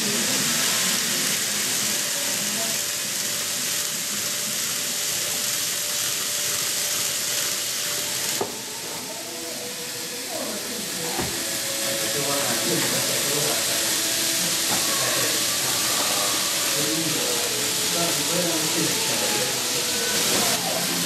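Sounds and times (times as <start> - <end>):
model train wheels rolling: 0.0 - 21.0
thin motor whine: 0.0 - 21.0.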